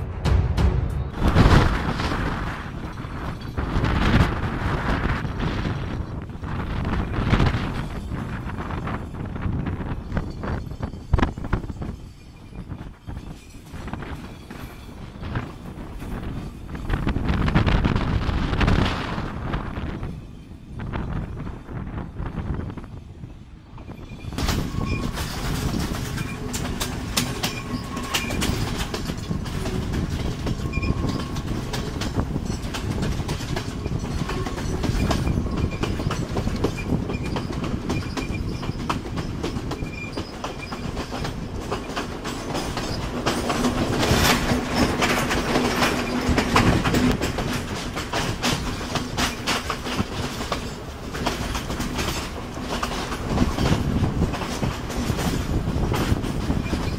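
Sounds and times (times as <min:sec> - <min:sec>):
train wheels clattering: 0:00.0 - 0:19.8, 0:23.8 - 0:56.9.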